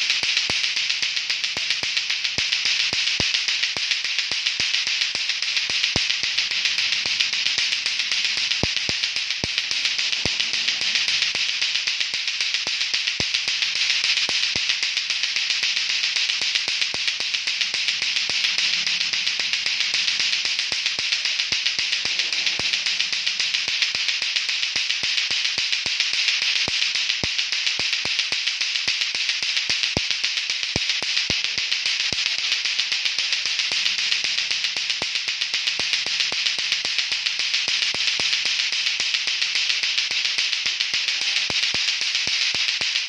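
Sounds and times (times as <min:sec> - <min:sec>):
plastic balls clacking together: 0:00.0 - 0:43.0.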